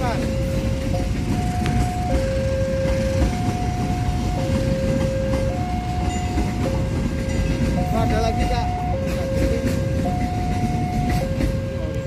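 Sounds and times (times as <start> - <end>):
train coaches rumbling over rails: 0.0 - 12.0
two-tone level crossing alarm: 0.0 - 12.0.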